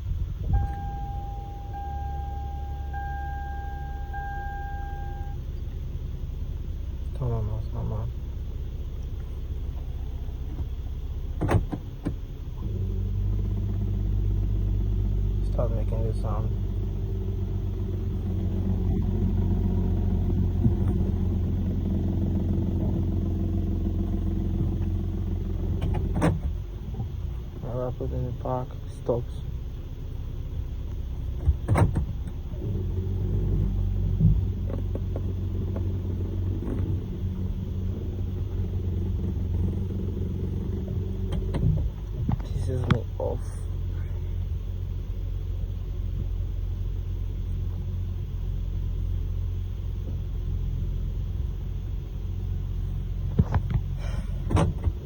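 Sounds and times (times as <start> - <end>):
car engine cranking: 0.0 - 55.0
car engine idling: 0.0 - 55.0
steady low hum: 0.0 - 55.0.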